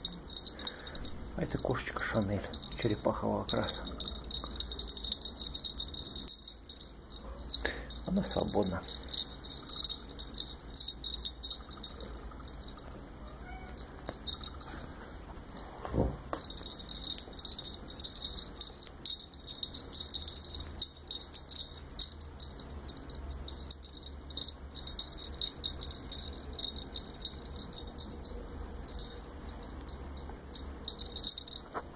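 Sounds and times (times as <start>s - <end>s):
crickets chirping: 0.0s - 14.8s, 16.4s - 31.8s.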